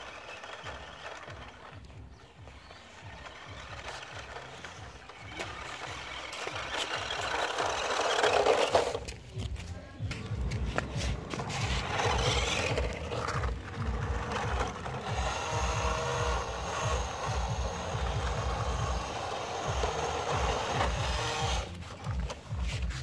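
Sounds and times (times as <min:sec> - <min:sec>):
toy truck motor whirring: 0:00.0 - 0:09.1, 0:11.1 - 0:22.8.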